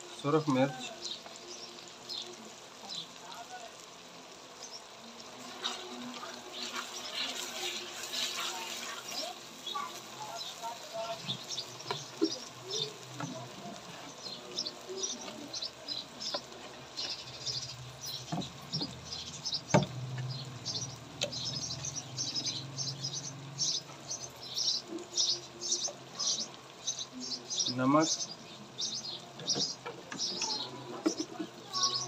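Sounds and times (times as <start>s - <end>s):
masala simmering in a pot: 0.0s - 32.0s
small birds chirping: 0.0s - 32.0s.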